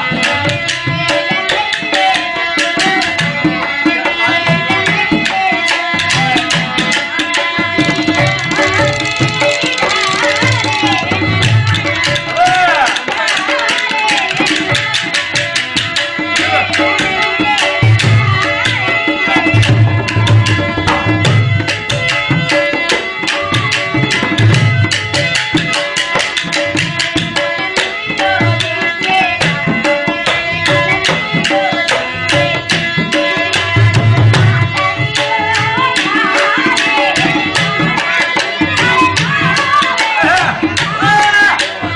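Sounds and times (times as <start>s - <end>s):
fast hand-drum rhythm: 0.0s - 41.9s
pitched instrumental melody: 0.0s - 41.9s.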